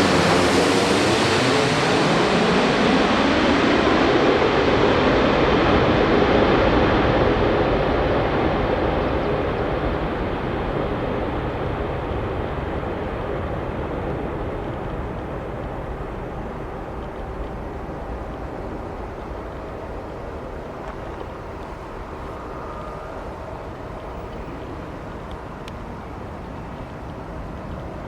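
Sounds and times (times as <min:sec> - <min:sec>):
jet airliner rumble: 0:00.0 - 0:28.0.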